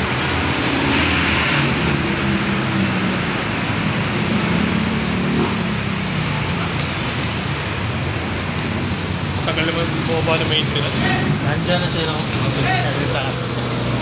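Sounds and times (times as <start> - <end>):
road traffic noise: 0.0 - 14.0
vehicle engines running close by: 0.0 - 14.0.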